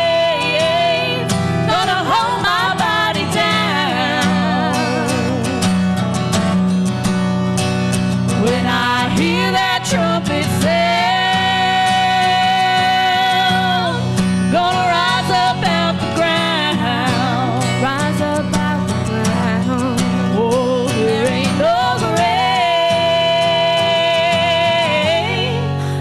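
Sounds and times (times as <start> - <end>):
woman singing gospel song: 0.0 - 5.8, 8.4 - 26.0
strummed acoustic guitar: 0.0 - 26.0.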